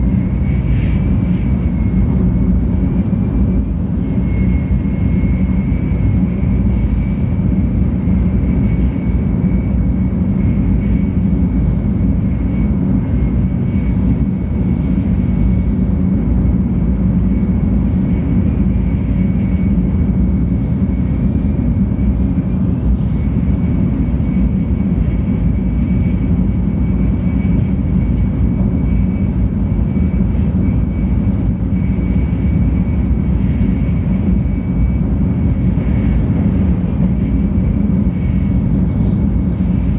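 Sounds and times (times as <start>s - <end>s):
faint high whine: 0.0s - 39.9s
train cabin low rumble: 0.0s - 39.9s.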